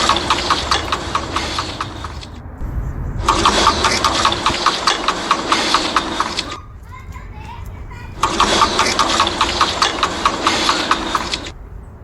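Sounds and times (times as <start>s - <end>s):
woodpecker pecking at wood: 0.0s - 2.4s, 3.3s - 11.5s.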